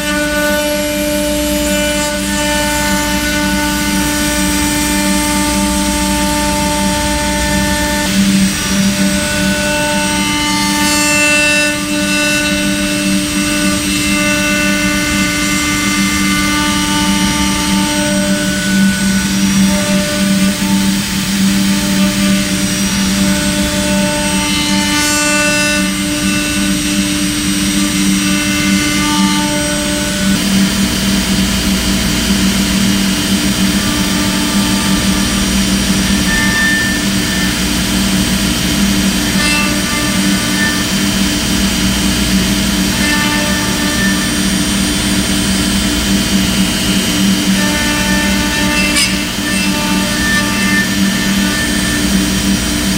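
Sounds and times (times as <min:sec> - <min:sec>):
router spindle whine carving wood: 0:00.0 - 0:52.9.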